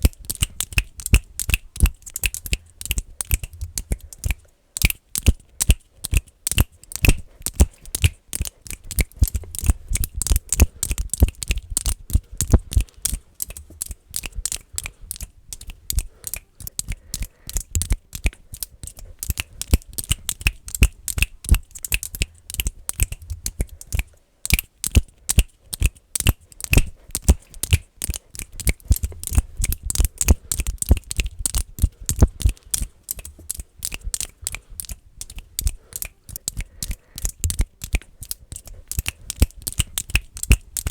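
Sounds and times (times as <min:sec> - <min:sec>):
fast finger clicking: 0:00.0 - 0:40.9.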